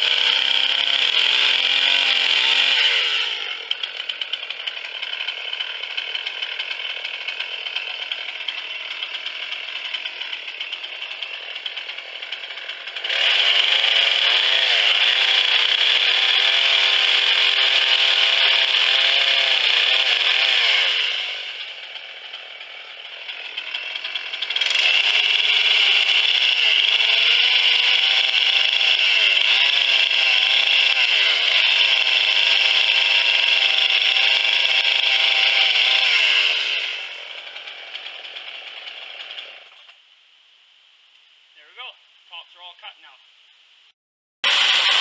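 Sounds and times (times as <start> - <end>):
chainsaw cutting wood: 0.0 - 40.0, 44.4 - 45.0.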